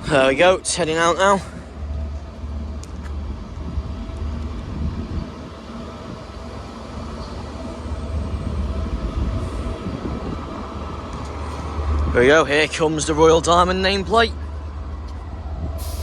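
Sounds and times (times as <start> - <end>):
diesel locomotive drone: 0.0 - 16.0.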